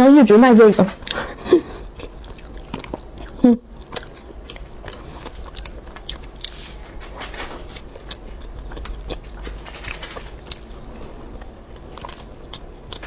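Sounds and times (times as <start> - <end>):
close chewing of pastry: 1.0 - 13.0.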